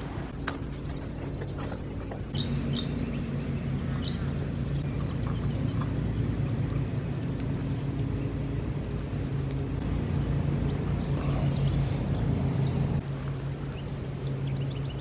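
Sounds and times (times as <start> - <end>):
birds chirping: 0.0 - 15.0
low motor hum: 0.0 - 15.0.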